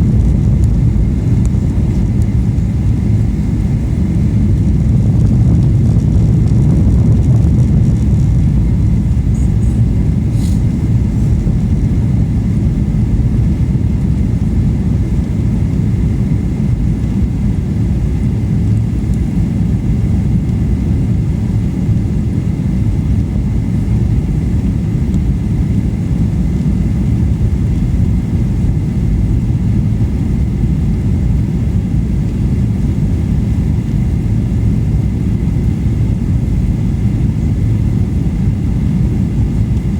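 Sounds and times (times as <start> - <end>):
faint steady whine: 0.0 - 39.9
jet engine and airflow rumble: 0.0 - 39.9.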